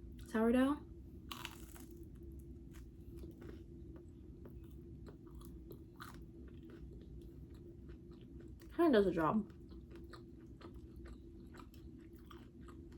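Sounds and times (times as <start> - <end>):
person chewing crunchy toast: 1.3 - 8.7, 9.5 - 12.9.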